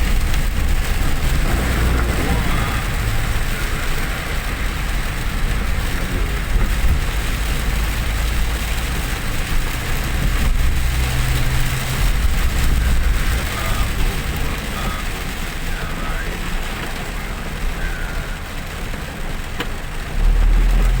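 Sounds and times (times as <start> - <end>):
engine and road rumble: 0.0 - 21.0
rain and wet tyres hissing: 0.0 - 21.0.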